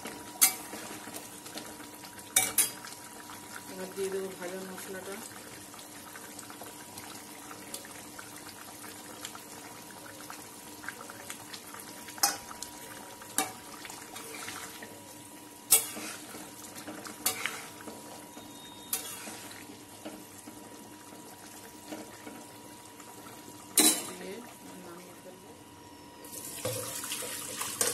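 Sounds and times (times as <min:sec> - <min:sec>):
simmering pot hiss: 0:00.0 - 0:27.9.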